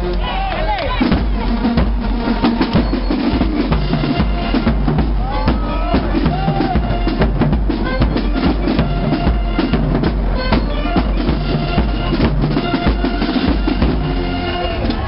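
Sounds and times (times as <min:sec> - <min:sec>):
bass and snare drums beating: 0:00.0 - 0:15.0
short brass notes: 0:00.0 - 0:15.0.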